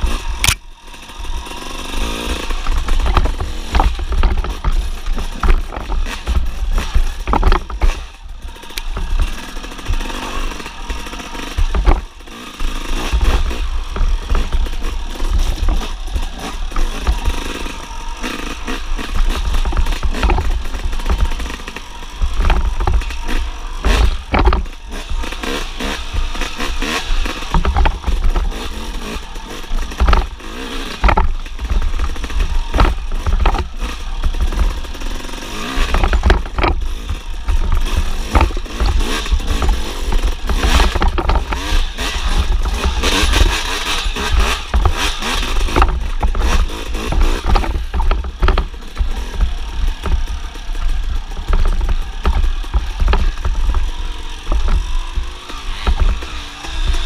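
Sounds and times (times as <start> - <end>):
bike knocking and rattling: 0.0 - 57.0
motorbike engine under throttle: 0.0 - 57.0.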